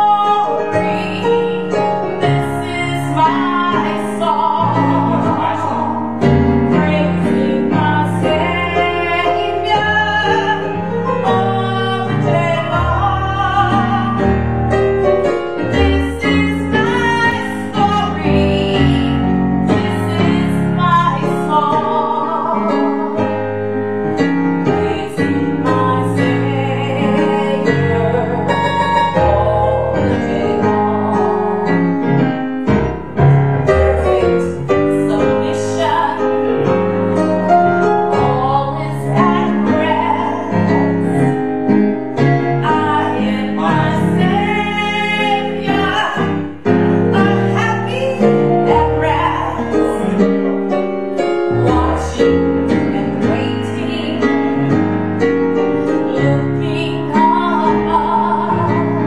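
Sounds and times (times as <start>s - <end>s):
woman singing into microphone: 0.0s - 14.4s, 15.6s - 23.4s, 24.7s - 31.9s, 33.7s - 36.8s, 37.5s - 41.4s, 42.6s - 50.3s, 51.5s - 54.5s, 56.0s - 59.0s
electronic keyboard piano chords: 0.0s - 59.0s.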